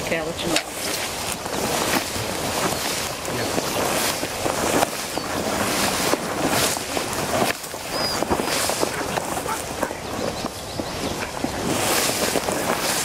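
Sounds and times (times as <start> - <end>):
gusty wind thumps: 0.0 - 13.0
wind on microphone: 0.0 - 13.0.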